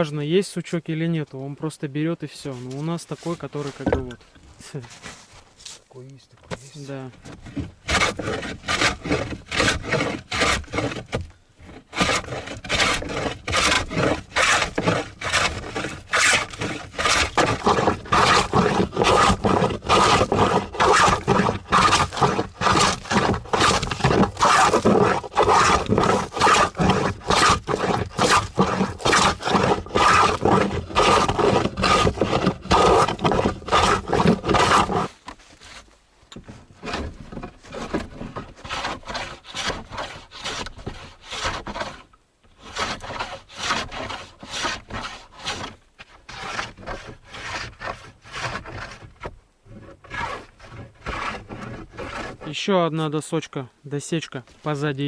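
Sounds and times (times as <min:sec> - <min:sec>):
hand plane scraping wood: 0:04.8 - 0:05.8, 0:07.1 - 0:52.6.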